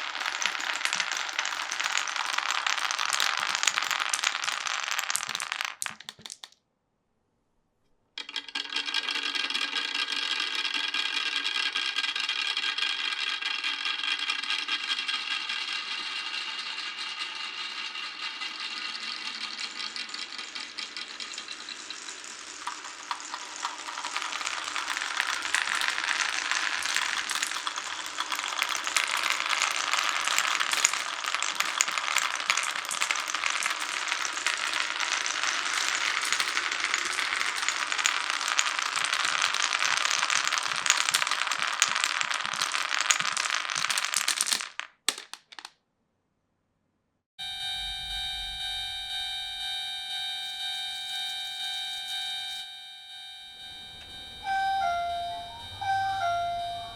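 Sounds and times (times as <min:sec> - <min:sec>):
marbles rattling down a track: 0:00.0 - 0:06.6, 0:08.2 - 0:45.7, 0:53.8 - 0:56.9.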